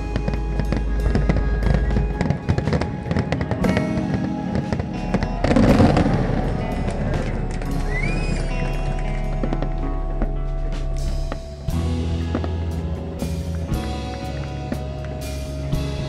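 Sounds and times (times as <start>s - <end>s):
fireworks bursting: 0.0s - 16.0s
music playing: 0.0s - 16.0s.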